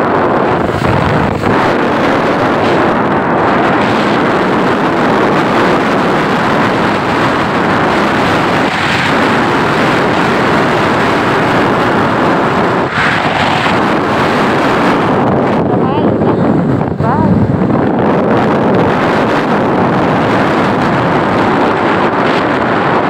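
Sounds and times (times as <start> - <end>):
road noise: 0.0 - 23.0
wind rushing over microphone: 0.0 - 23.0.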